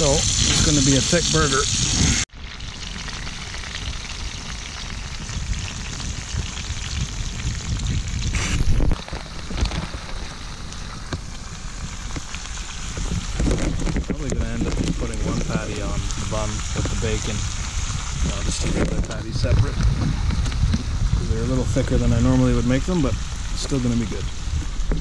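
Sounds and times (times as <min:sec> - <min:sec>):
burger patties sizzling in a pan: 0:00.0 - 0:24.9.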